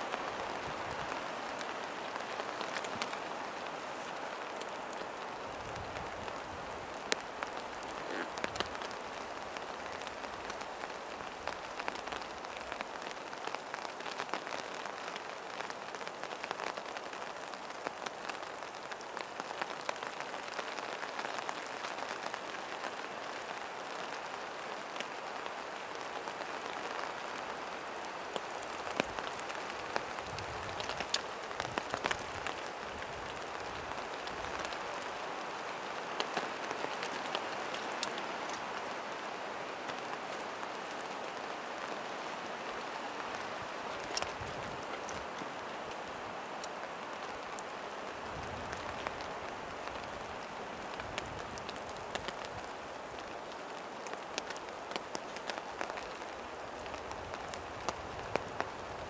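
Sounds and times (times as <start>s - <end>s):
raindrops ticking on an umbrella: 0.0s - 59.0s
steady rain: 0.0s - 59.0s.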